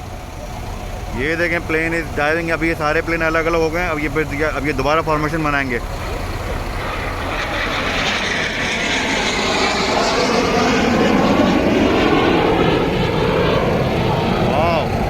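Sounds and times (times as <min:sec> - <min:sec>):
aircraft engines flying past: 0:00.0 - 0:15.0.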